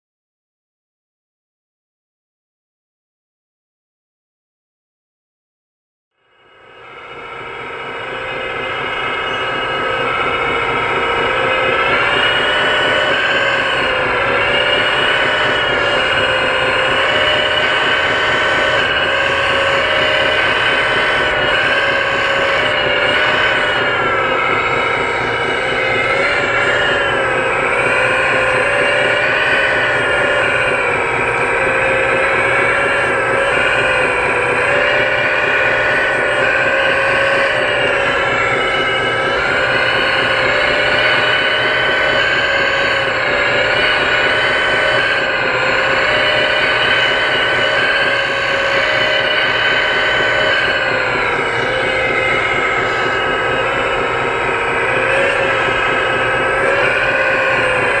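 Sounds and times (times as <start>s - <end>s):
hydraulic pump whine: 6.2s - 58.0s.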